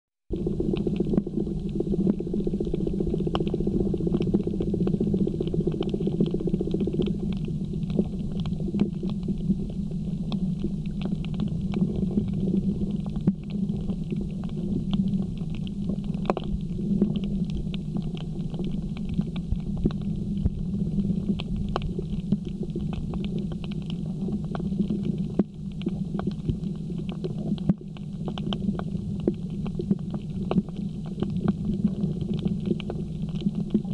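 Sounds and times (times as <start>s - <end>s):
faint crackling clicks: 0.3s - 33.9s
muffled underwater rumble: 0.3s - 33.9s.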